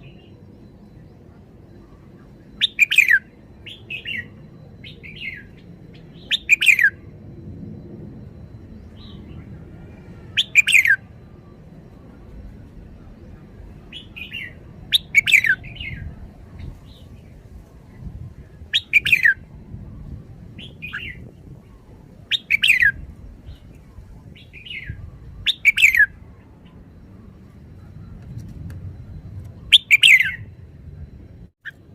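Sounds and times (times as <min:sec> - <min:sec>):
bird singing whistled notes: 0:00.0 - 0:07.1, 0:07.7 - 0:31.8.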